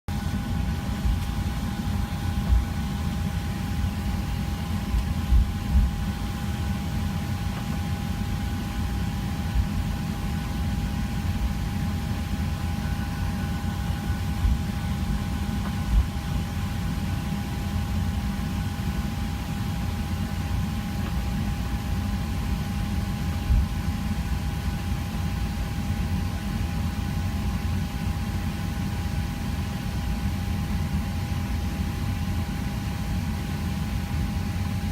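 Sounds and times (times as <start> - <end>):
airplane cabin hum: 0.1 - 34.9
constant whine: 0.1 - 34.9.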